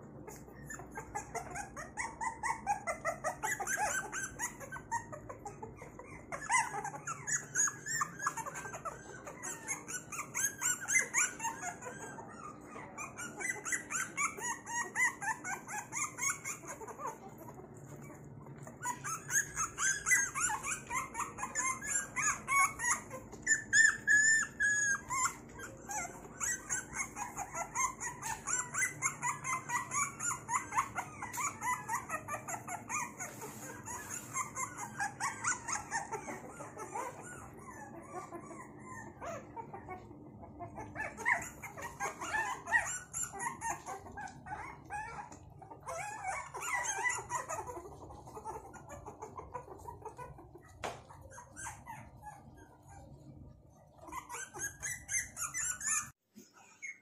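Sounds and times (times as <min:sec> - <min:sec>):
puppies whining and yelping: 0:00.0 - 0:57.0.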